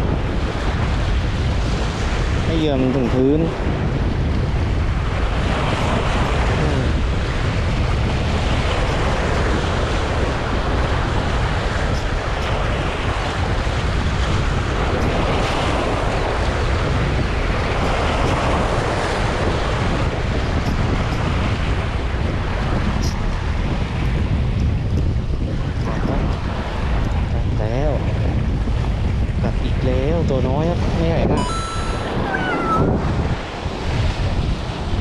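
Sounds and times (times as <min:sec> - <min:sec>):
sea waves washing ashore: 0:00.0 - 0:35.0
wind buffeting microphone: 0:00.0 - 0:35.0.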